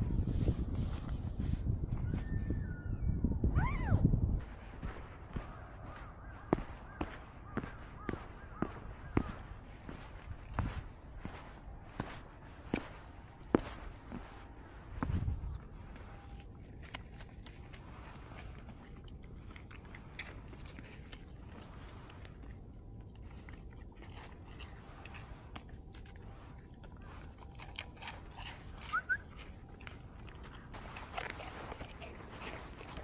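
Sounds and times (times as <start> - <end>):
deer crunching crackers: 4.4 - 33.0.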